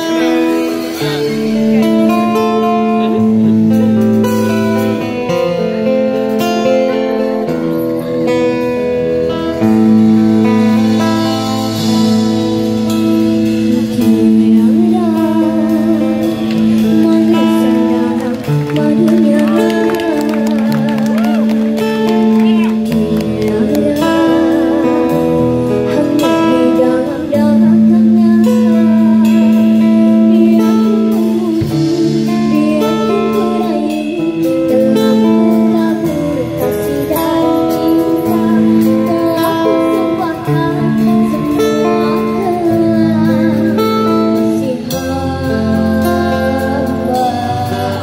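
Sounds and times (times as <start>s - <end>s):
acoustic guitar strumming: 0.0s - 48.0s
girl singing into a microphone: 0.0s - 48.0s.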